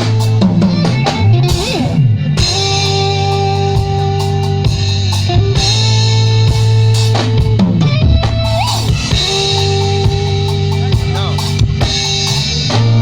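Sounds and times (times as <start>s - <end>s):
drum kit: 0.0s - 13.0s
electric guitar: 0.0s - 13.0s.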